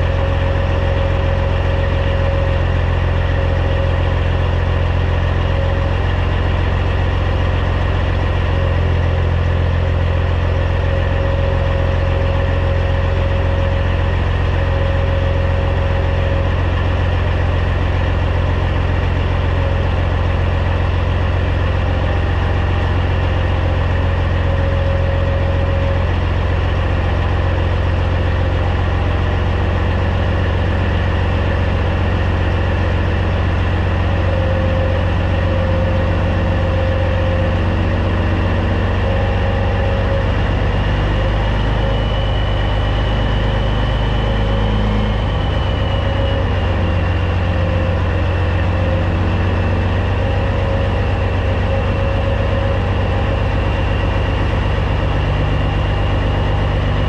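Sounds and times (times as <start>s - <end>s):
diesel truck engine droning: 0.0s - 57.0s
mid-pitched whine: 0.0s - 57.0s.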